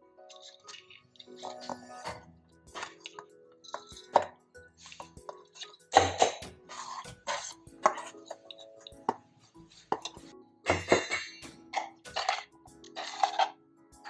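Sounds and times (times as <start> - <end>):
steel bowls and spoon clinking: 0.3 - 9.1, 9.9 - 13.6.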